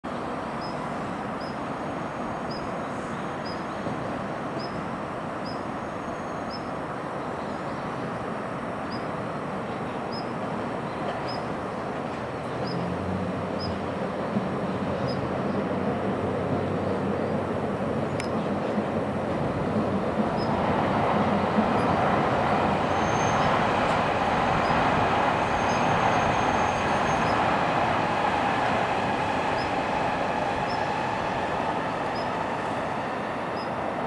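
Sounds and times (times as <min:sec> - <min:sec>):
train rumbling hum: 0:00.0 - 0:34.0.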